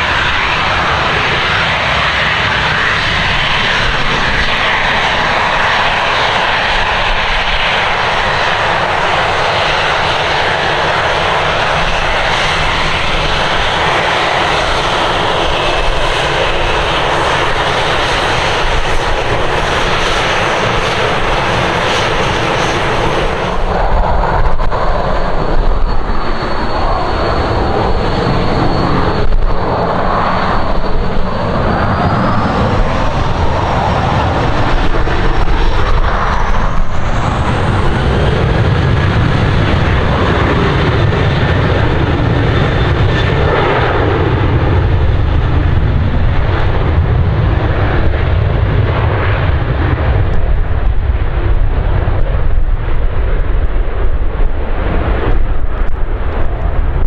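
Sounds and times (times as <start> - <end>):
jet engines whine and rush: 0.0 - 57.0.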